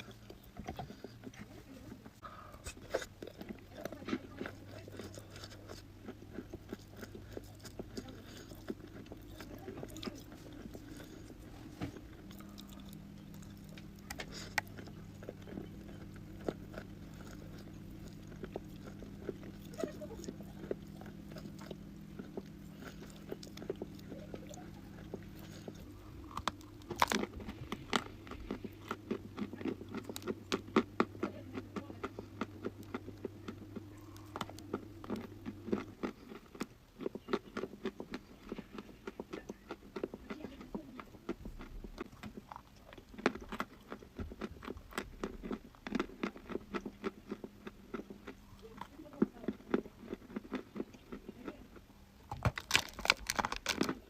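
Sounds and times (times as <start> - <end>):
low steady hum: 0.0 - 54.0
person chewing crunchy chalk: 0.0 - 54.0.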